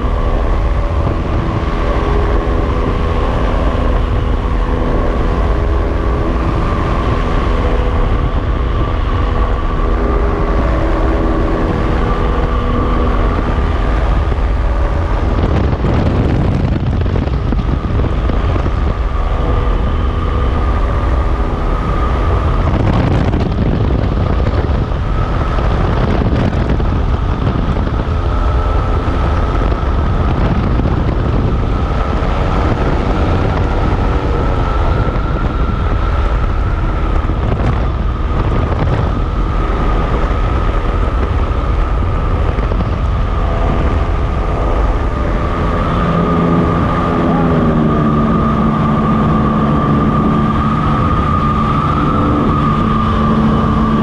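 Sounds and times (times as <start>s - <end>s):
high whine: 0.0s - 54.0s
vehicle low rumble: 0.0s - 54.0s
wind buffeting microphone: 0.0s - 54.0s.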